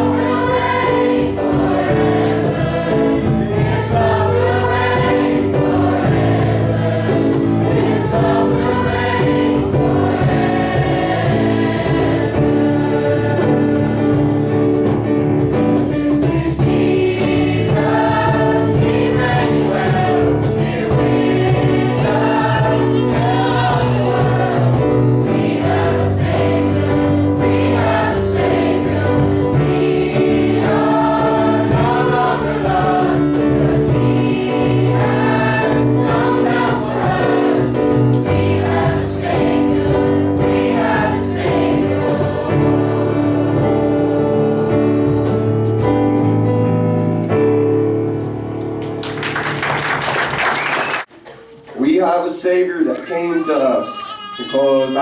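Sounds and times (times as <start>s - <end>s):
choir singing: 0.0s - 46.5s
sustained instrumental accompaniment: 0.0s - 49.6s.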